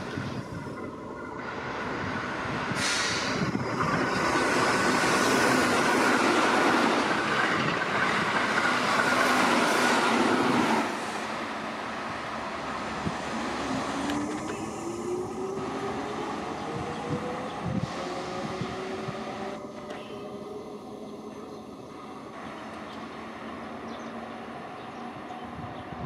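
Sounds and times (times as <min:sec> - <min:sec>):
rising train motor whine: 0:00.0 - 0:26.0
train wheels rushing on rail: 0:00.0 - 0:26.0.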